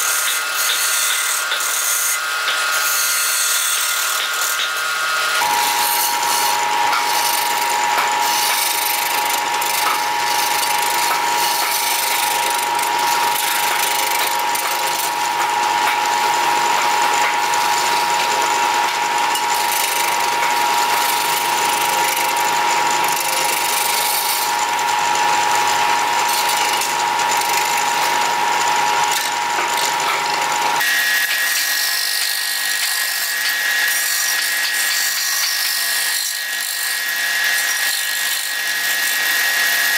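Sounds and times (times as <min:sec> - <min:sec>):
gouge cutting wood: 0:00.0 - 0:39.9
lathe whine: 0:00.0 - 0:39.9.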